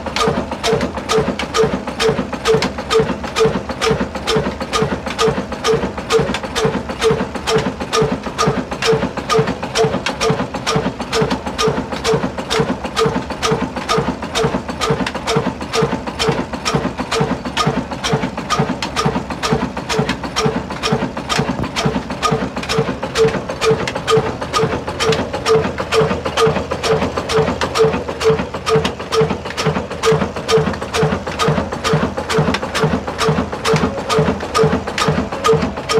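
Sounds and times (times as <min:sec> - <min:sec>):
diesel engine knocking slowly: 0:00.0 - 0:35.9.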